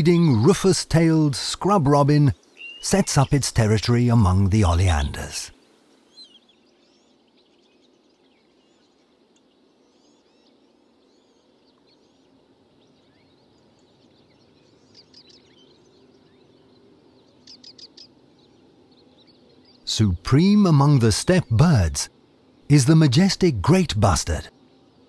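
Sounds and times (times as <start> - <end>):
faint steady background noise: 0.0 - 25.0
small birds chirping: 0.0 - 25.0.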